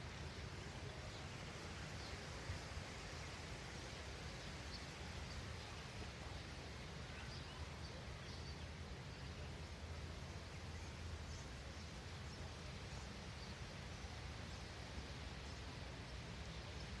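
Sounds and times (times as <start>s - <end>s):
steady hiss and rumble: 0.0s - 17.0s.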